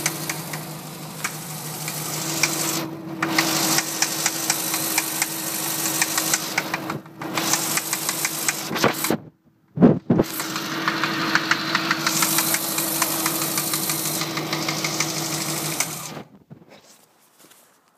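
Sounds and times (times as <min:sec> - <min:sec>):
engine knocking tick: 0:00.0 - 0:08.7, 0:10.3 - 0:16.0
car engine running: 0:00.0 - 0:09.1, 0:10.2 - 0:16.3.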